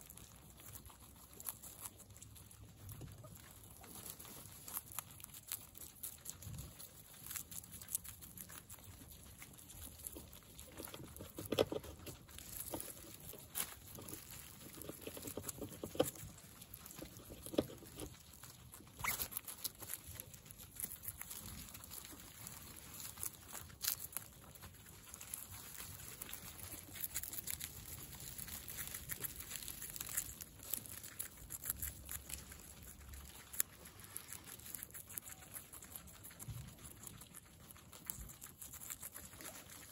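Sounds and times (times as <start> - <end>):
guinea pigs crunching vegetables: 0.0 - 39.9.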